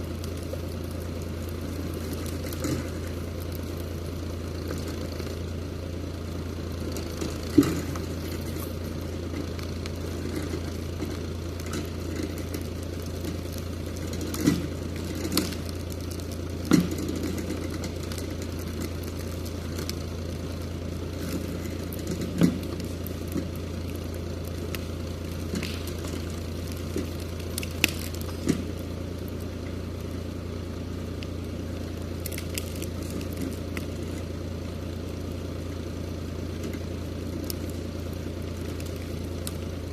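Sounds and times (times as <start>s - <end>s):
sharp cracks and knocks: 0.0s - 5.5s, 6.8s - 30.2s, 31.2s - 34.3s, 36.5s - 39.9s
tractor engine running: 0.0s - 39.9s.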